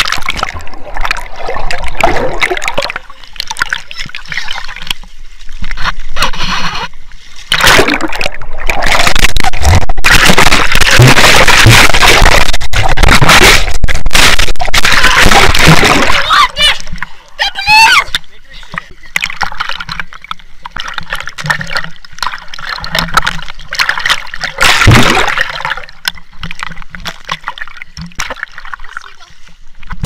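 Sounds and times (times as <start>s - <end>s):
rushing water and spray: 0.0s - 30.0s
water splashing and sloshing: 0.0s - 30.0s.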